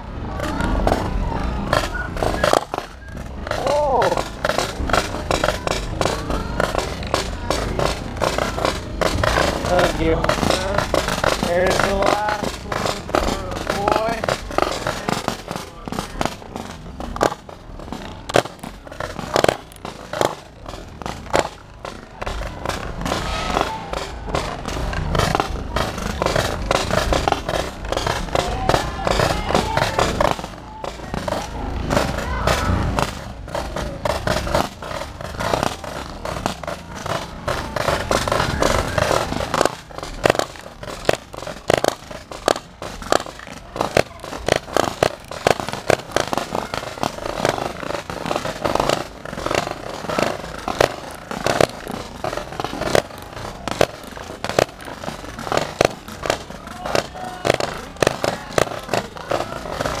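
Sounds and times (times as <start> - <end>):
paintball markers firing: 0.4 - 60.0.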